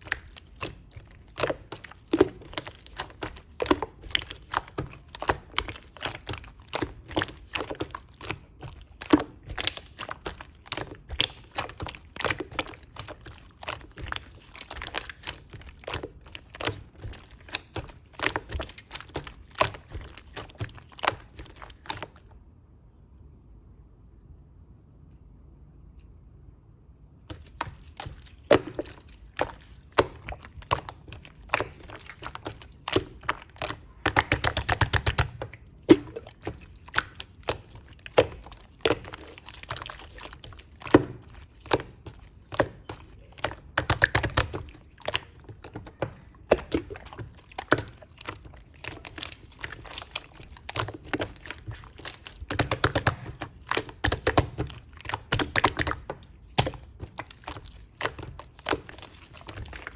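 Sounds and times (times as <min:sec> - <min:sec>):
slime squishing with wet pops: 0:00.0 - 0:22.4, 0:27.2 - 0:59.9.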